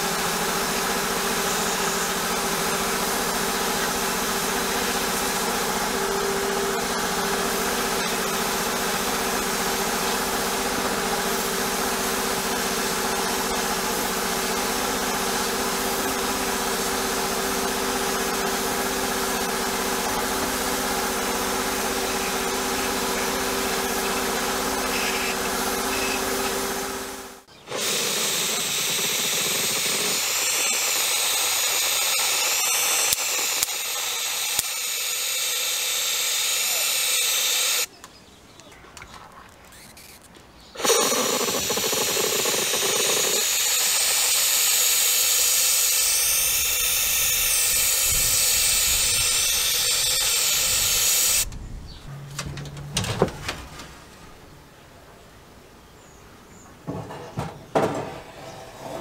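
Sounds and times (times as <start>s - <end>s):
blast nozzle hissing: 0.0s - 37.9s, 40.8s - 51.5s.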